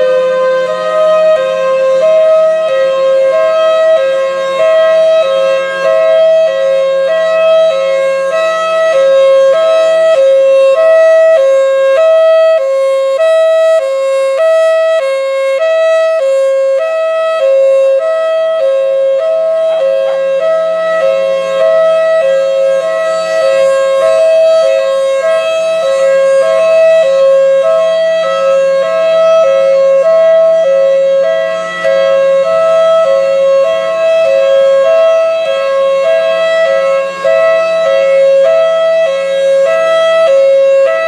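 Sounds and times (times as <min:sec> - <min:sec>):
hi-lo warning siren: 0:00.0 - 0:41.0.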